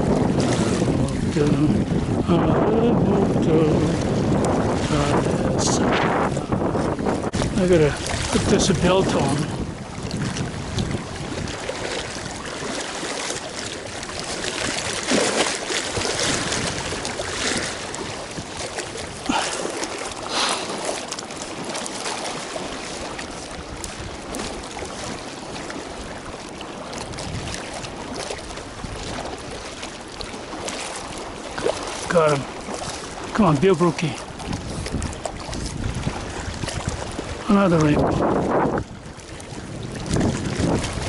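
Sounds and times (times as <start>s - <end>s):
water lapping and sloshing: 0.0s - 41.0s
water splashes: 0.0s - 41.0s.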